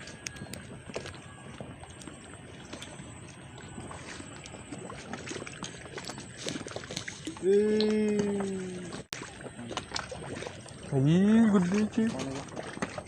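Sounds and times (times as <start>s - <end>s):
water lapping at shore: 0.0s - 13.0s.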